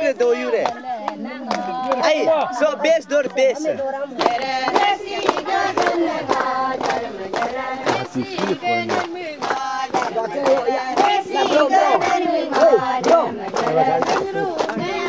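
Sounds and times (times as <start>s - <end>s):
crowd singing a chant: 0.0s - 15.0s.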